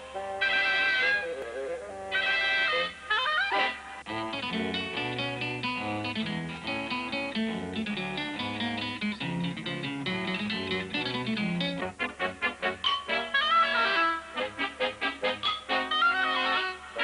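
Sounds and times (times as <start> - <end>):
plucked guitar: 0.0 - 17.0.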